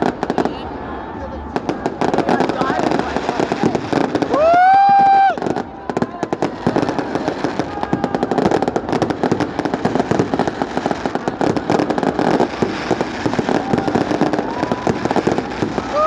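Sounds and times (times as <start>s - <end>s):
fireworks crackling: 0.0s - 16.0s
fireworks whistling: 0.0s - 16.0s.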